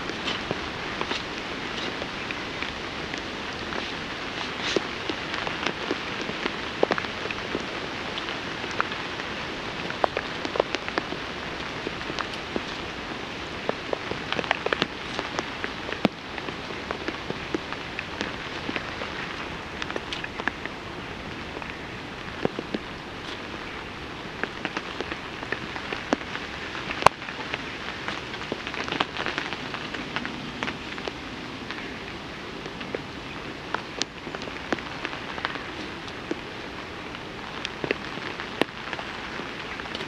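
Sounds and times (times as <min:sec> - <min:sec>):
rain falling on a tarp: 0:00.0 - 0:40.0.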